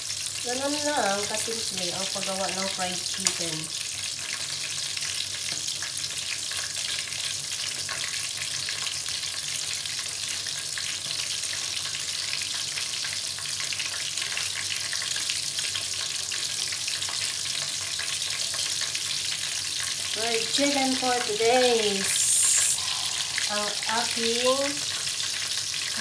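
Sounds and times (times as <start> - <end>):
oil sizzling and crackling: 0.0 - 26.0.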